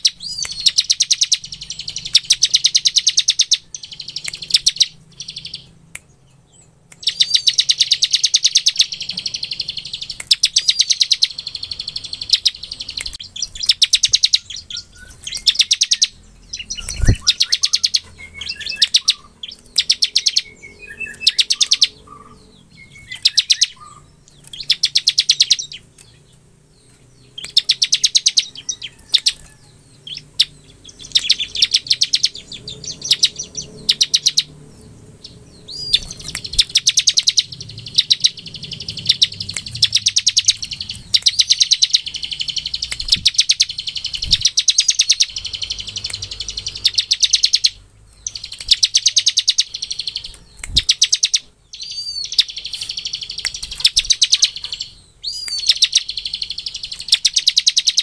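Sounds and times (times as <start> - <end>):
bird trilling song: 0.0 - 58.0.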